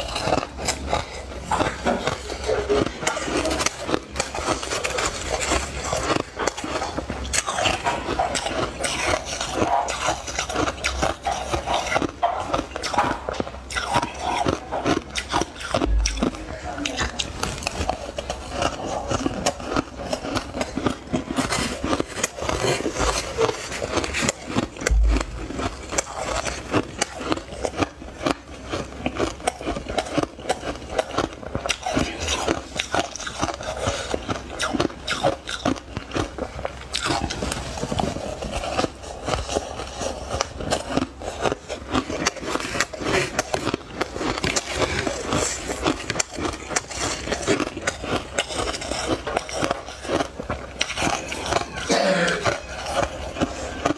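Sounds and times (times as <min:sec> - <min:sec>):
ice crunching as it is chewed: 0:00.0 - 0:53.9.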